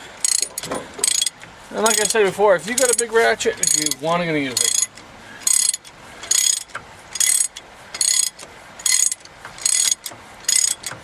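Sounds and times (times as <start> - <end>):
ratchet wrench clicking: 0.2 - 11.0.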